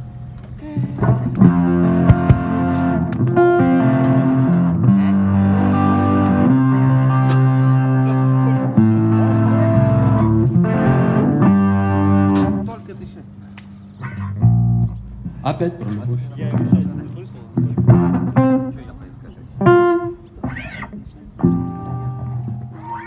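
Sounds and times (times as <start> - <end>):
guitar chords through effects: 0.6 - 12.6, 14.0 - 15.4, 16.5 - 19.0, 19.6 - 23.0.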